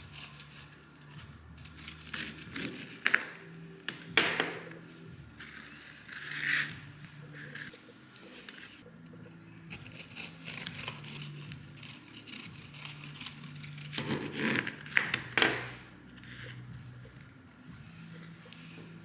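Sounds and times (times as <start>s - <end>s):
kitchen utensils scraping and clicking: 0.0s - 4.8s, 5.4s - 16.6s.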